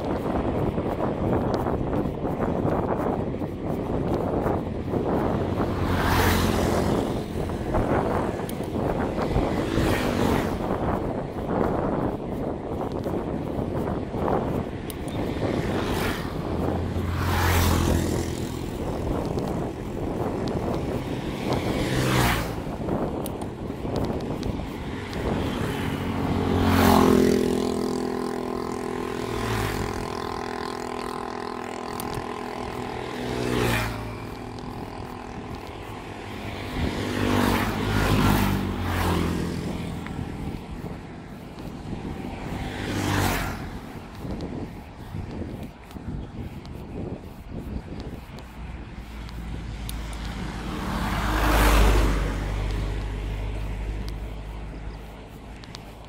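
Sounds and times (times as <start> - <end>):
motor scooter engines: 0.0 - 56.0
wind on microphone: 0.0 - 56.0.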